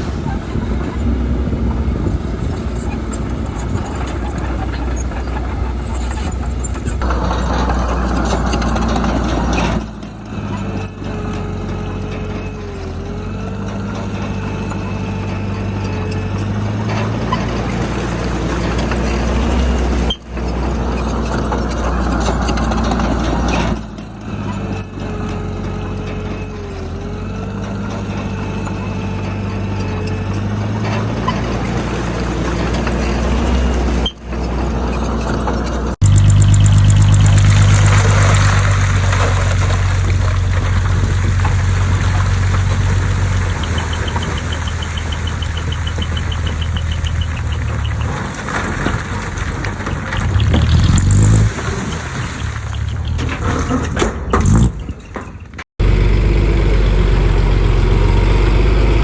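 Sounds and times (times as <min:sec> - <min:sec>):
heavy diesel machinery working: 0:00.0 - 0:59.0.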